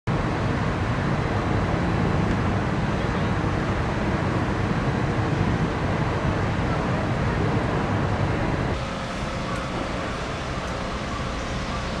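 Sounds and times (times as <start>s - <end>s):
distant city traffic rumble: 0.1s - 12.0s.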